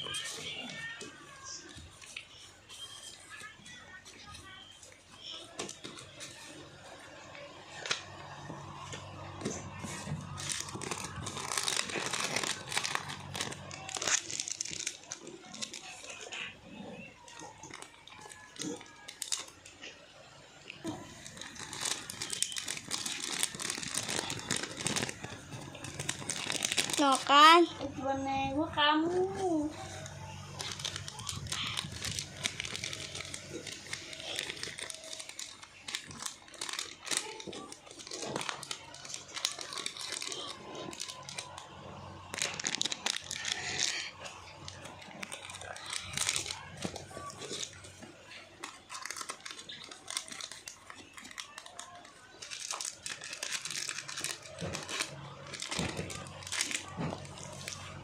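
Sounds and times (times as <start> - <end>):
packaging crinkling: 0.0 - 19.9, 20.7 - 27.8, 29.1 - 58.0.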